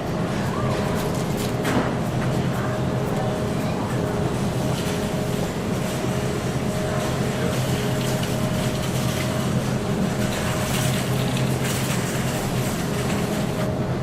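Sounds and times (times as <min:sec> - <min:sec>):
freezer cases humming: 0:00.0 - 0:14.0.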